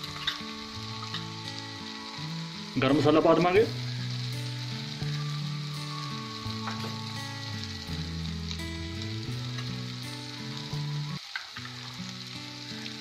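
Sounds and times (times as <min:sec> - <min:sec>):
low background music: 0:00.0 - 0:13.0
masala sizzling: 0:00.0 - 0:13.0.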